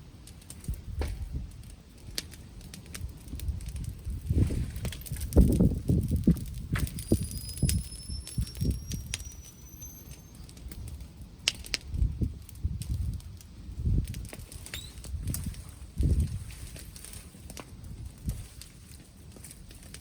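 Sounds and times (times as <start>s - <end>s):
bonfire crackling and popping: 0.0s - 20.0s
wind buffeting microphone: 0.6s - 9.7s, 10.3s - 20.0s.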